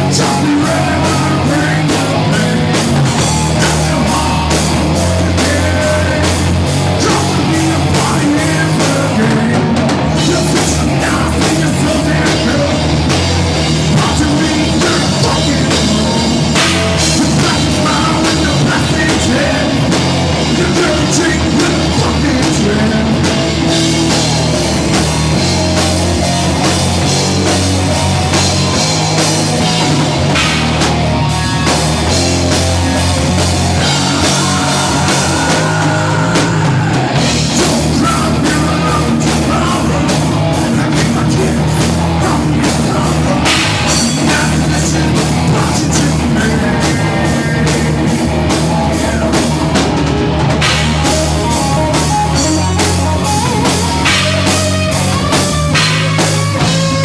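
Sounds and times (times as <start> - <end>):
bass guitar: 0.0 - 57.0
distorted electric guitar: 0.0 - 57.0
fast dense drumming: 0.0 - 57.0.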